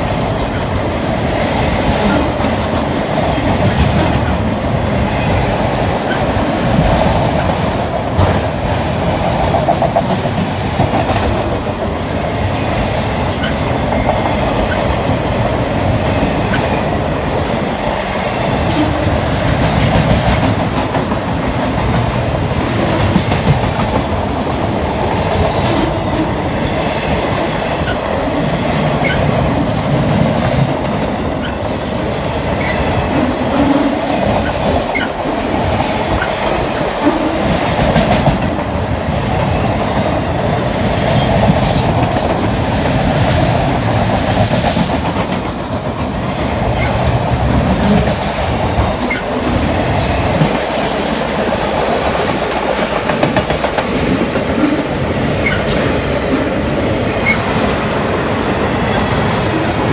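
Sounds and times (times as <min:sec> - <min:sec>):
steel wheels rolling on rail: 0:00.0 - 0:59.9.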